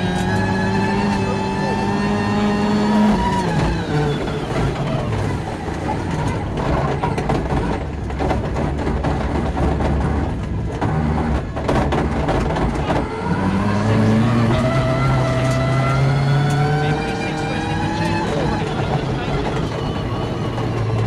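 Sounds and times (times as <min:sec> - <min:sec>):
car engine from inside cabin: 0:00.0 - 0:21.0
tyre and road noise: 0:00.0 - 0:21.0.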